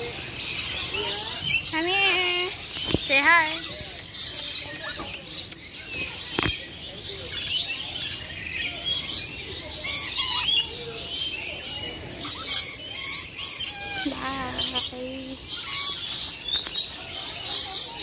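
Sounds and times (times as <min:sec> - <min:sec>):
lorikeets chattering: 0:00.0 - 0:18.0.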